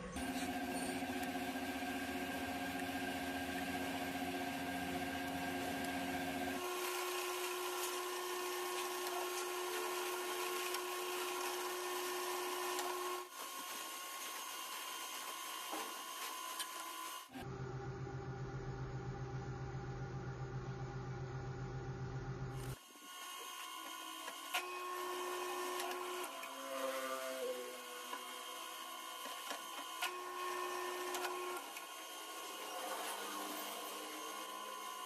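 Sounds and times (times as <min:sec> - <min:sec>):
machine tool hum and whine: 0:00.0 - 0:35.0.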